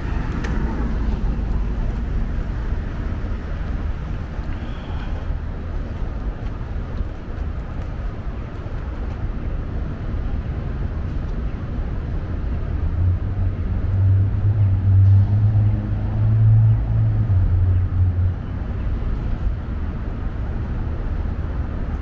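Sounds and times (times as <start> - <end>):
low engine hum: 0.0 - 22.0
low rumble of traffic: 0.0 - 22.0.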